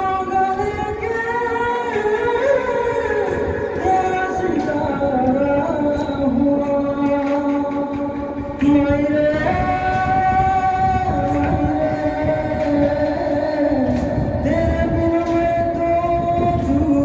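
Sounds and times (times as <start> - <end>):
karaoke backing track: 0.0 - 17.0
man singing into a microphone: 0.0 - 17.0.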